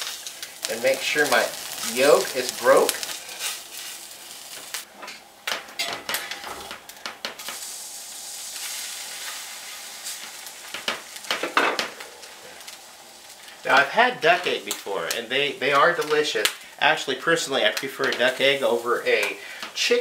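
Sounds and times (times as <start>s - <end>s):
egg sizzling in a skillet: 0.0s - 4.9s, 6.1s - 20.0s.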